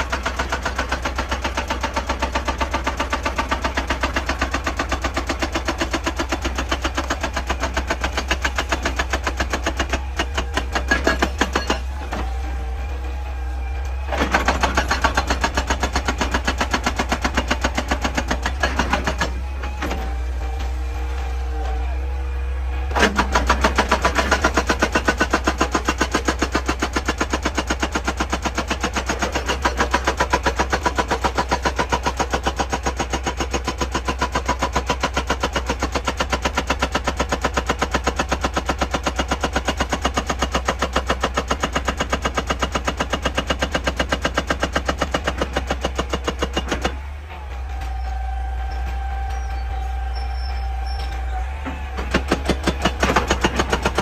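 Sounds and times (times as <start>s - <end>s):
excavator engine drone: 0.0s - 54.0s
hydraulic breaker hammering rock: 0.0s - 54.0s.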